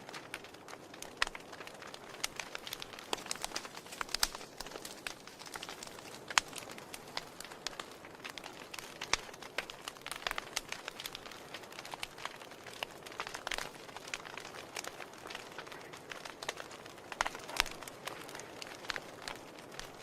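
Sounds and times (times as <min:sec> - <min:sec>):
log fire crackling and popping: 0:00.0 - 0:20.0.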